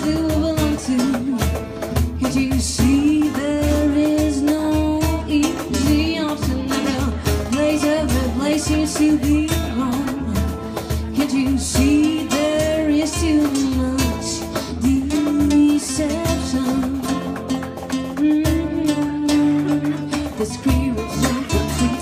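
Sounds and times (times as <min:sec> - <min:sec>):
strummed acoustic guitars: 0:00.0 - 0:22.0
woman singing: 0:00.0 - 0:22.0.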